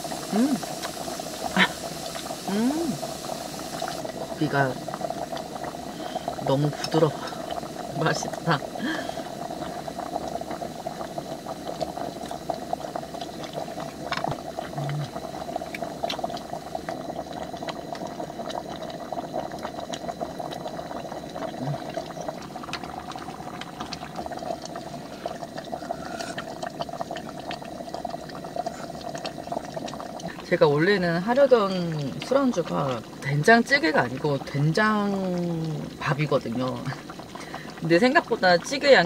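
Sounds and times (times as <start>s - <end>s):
stew bubbling in a pot: 0.0s - 39.0s.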